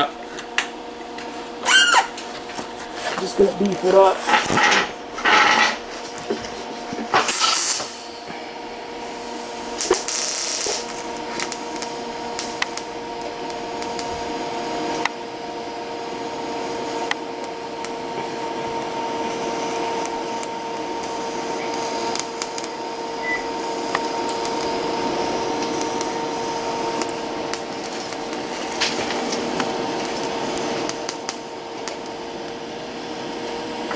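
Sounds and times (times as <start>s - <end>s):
welder electrical hum: 0.0s - 33.9s
welding arc hiss and crackle: 0.0s - 33.9s.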